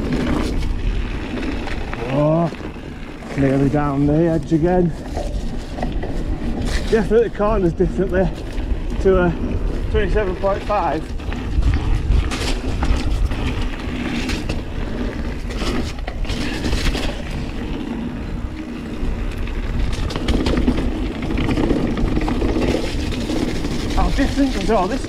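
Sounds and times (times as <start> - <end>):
bike clicks and rattles: 0.0 - 25.0
bike tyres rumbling over dirt: 0.0 - 25.0
wind buffeting microphone: 0.0 - 25.0.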